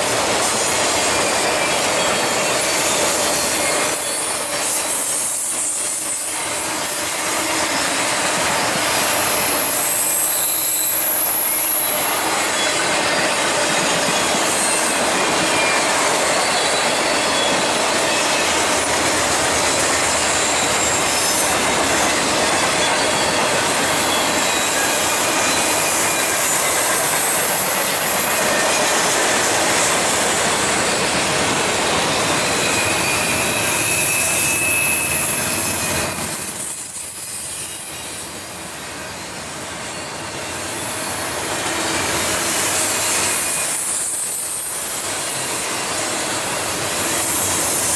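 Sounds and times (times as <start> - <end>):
train wheels on rail: 0.0 - 47.9
wheel squeals: 0.7 - 47.9.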